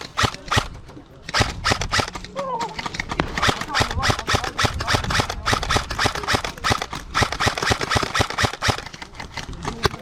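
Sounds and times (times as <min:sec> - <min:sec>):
airsoft guns firing: 0:00.0 - 0:10.0.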